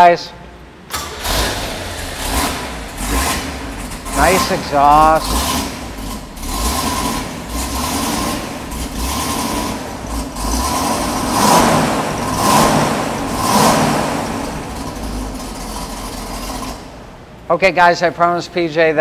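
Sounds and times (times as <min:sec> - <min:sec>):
engine exhaust rumbling: 0:00.8 - 0:17.7
engine revving: 0:00.9 - 0:17.1.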